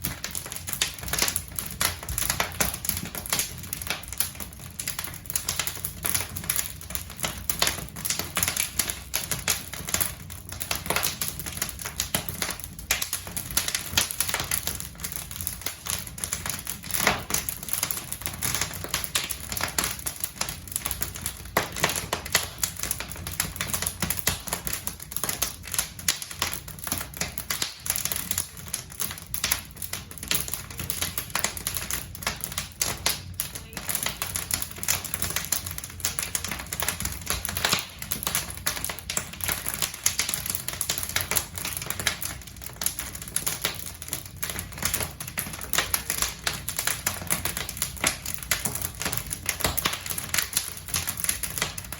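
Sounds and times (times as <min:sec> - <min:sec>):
logs crackling in fireplace: 0:00.0 - 0:51.9.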